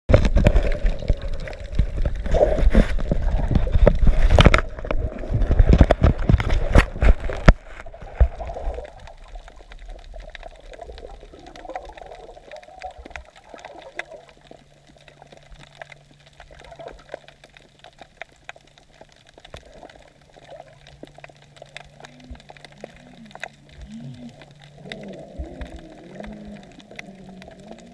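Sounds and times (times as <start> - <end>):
faint crackling clicks: 0.1 - 27.9
low steady hum: 0.1 - 27.9
muffled underwater ambience: 0.1 - 27.9
water splashing and gurgling: 0.1 - 27.9.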